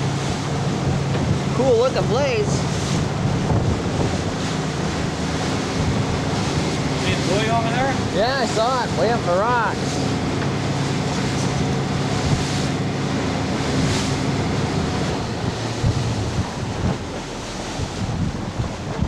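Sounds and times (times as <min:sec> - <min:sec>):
outboard motor running: 0:00.0 - 0:19.0
water rushing past hull: 0:00.0 - 0:19.0
wind buffeting microphone: 0:00.0 - 0:19.0.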